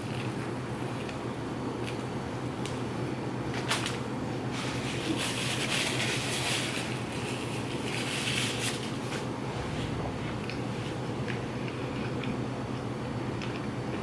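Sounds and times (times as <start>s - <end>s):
chewing and crunching food: 0.0s - 9.3s, 10.3s - 14.0s
low electrical hum: 0.0s - 14.0s.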